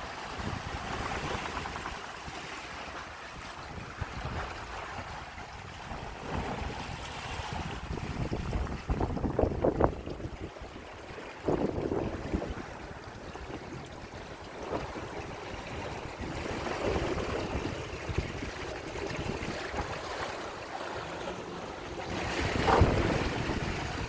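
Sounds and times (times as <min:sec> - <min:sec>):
water washing along boat hull: 0:00.0 - 0:24.0
wind buffeting microphone: 0:00.0 - 0:24.0.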